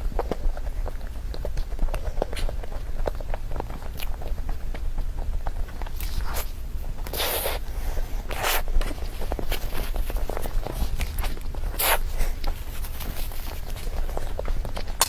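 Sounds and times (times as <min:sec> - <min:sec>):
person chewing wet mouth sounds: 0:00.0 - 0:15.0.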